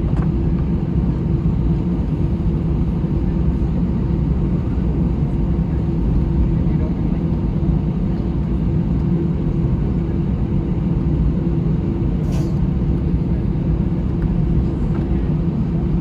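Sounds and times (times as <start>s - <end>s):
aircraft engines idling rumble: 0.0s - 16.0s.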